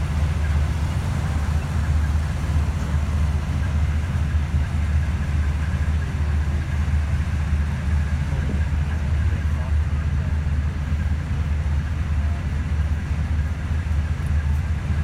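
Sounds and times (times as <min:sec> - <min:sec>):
heavy diesel vehicles rumbling past: 0:00.0 - 0:15.0.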